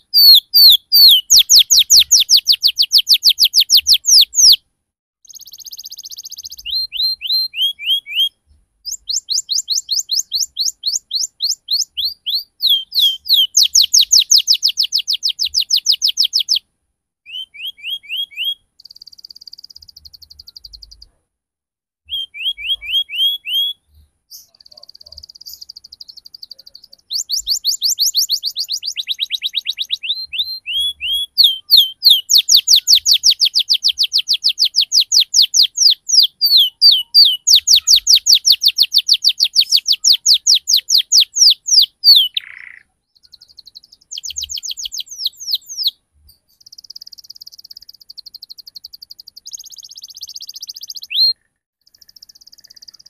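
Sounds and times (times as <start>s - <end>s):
canary singing: 0.0s - 4.6s, 5.2s - 21.2s, 22.0s - 53.0s.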